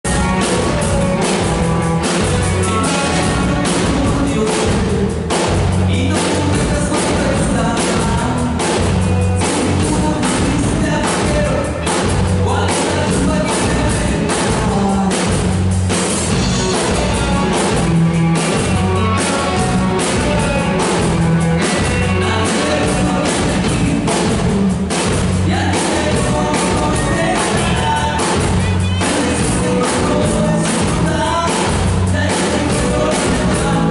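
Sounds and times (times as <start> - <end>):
man singing: 0.0 - 15.7, 16.3 - 33.9
drum kit beat: 0.0 - 33.9
electric guitar: 0.0 - 33.9.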